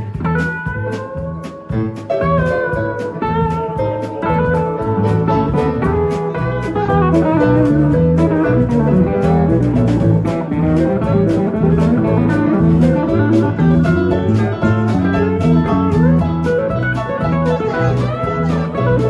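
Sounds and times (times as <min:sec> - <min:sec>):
bass: 0:00.0 - 0:19.0
drum and cymbal hits: 0:00.0 - 0:19.0
electric guitar: 0:00.0 - 0:19.0
keyboards: 0:00.0 - 0:19.0.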